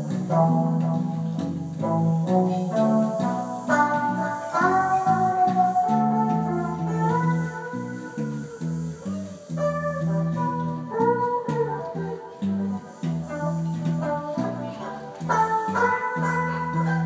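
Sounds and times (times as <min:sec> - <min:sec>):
electric guitar low riff: 0:00.0 - 0:17.0
guitar lead with bending notes: 0:00.0 - 0:17.0.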